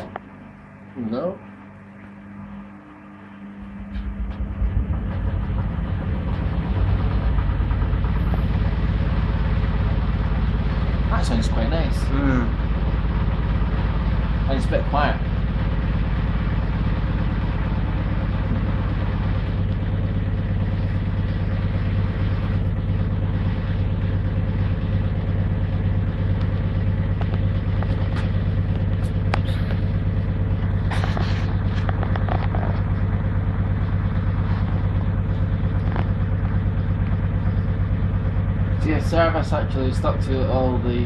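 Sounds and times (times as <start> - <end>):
washing machine drum spinning: 0.0 - 41.0.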